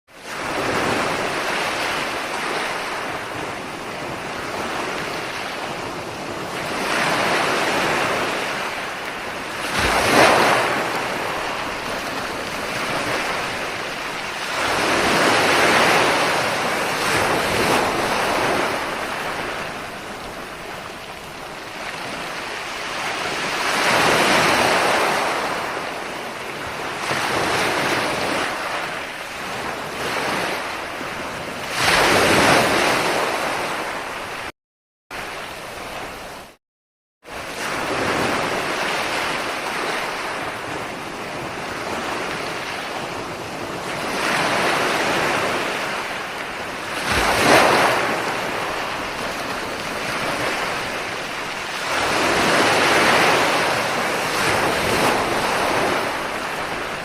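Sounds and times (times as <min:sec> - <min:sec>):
ocean waves breaking: 0:00.1 - 0:34.5, 0:35.1 - 0:36.6, 0:37.3 - 0:57.0.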